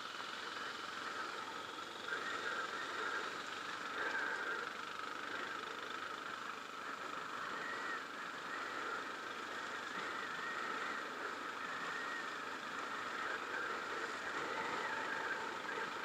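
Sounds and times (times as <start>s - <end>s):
dirt bike engine droning: 0.0s - 16.0s.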